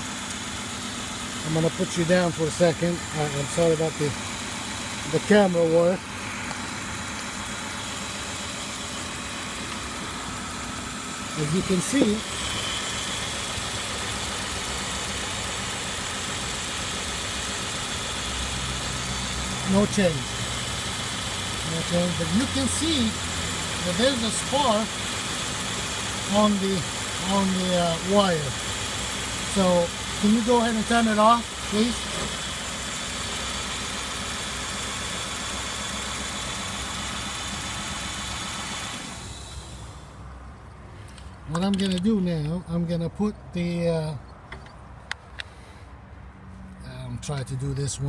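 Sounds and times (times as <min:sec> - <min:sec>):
misfiring car engine idling: 0:00.0 - 0:41.8.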